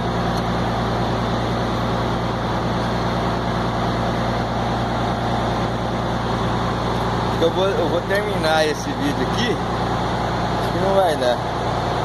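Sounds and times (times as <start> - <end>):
machine running steadily: 0.0 - 12.0.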